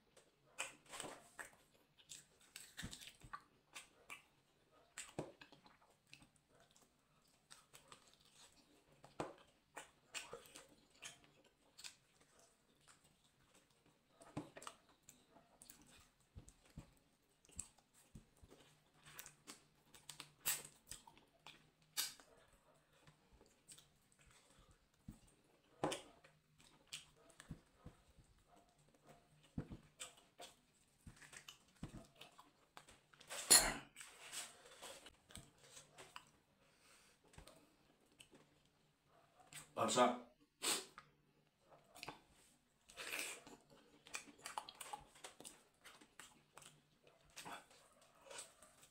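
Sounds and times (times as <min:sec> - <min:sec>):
man chewing meat: 0:00.0 - 0:39.7, 0:40.6 - 0:48.9.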